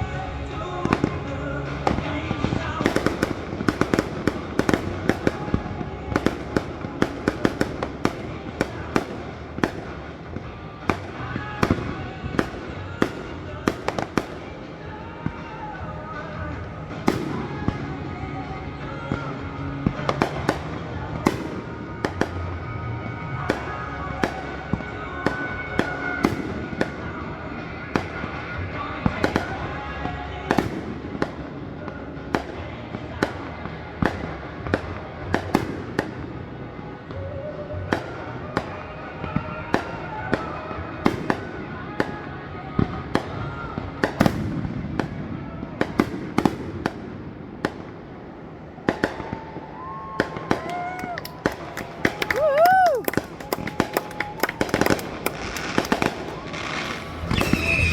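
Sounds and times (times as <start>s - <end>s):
fireworks bangs and pops: 0.0s - 18.1s, 19.0s - 57.9s
music playing: 0.0s - 49.0s, 49.8s - 57.9s.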